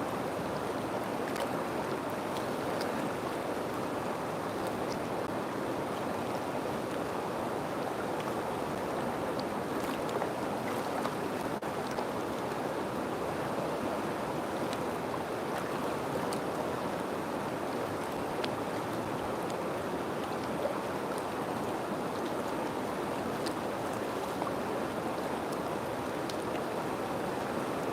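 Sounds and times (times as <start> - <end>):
river water flowing: 0.0 - 27.9.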